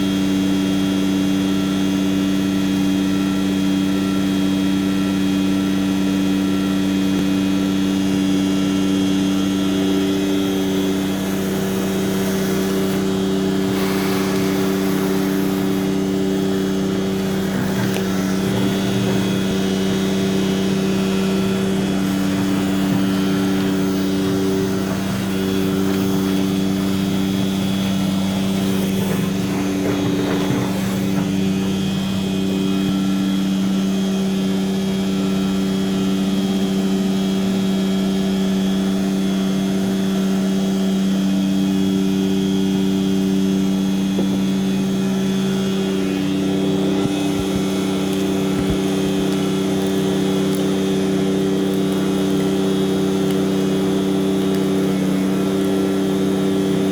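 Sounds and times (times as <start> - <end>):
truck engine and pump humming: 0.0 - 56.9.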